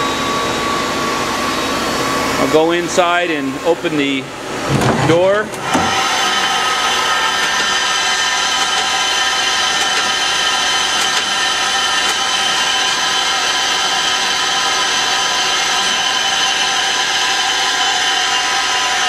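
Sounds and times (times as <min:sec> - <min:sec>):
lathe whining: 0:00.0 - 0:19.0.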